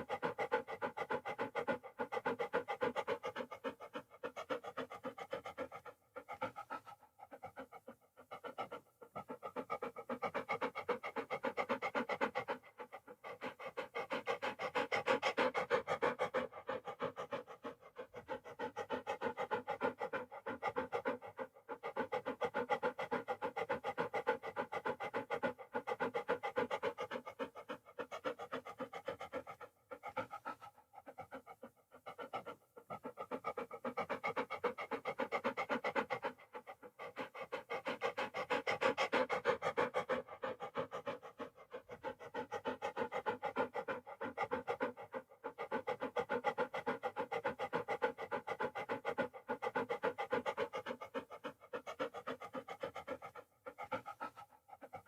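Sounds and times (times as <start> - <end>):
dog panting: 0.0 - 55.0.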